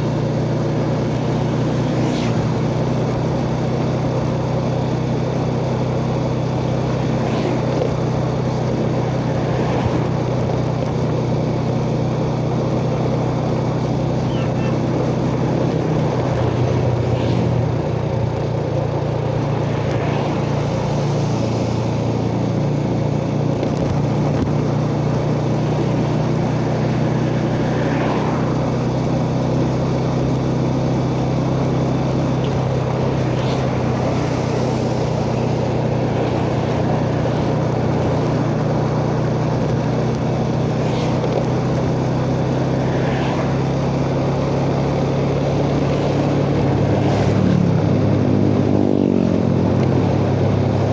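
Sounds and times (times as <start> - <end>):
motorcycle engine running: 0.0 - 50.9
wind and road noise: 0.0 - 50.9.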